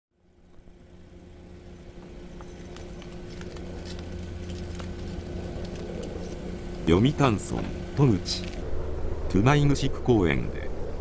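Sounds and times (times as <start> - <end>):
low mechanical hum: 0.1 - 11.0.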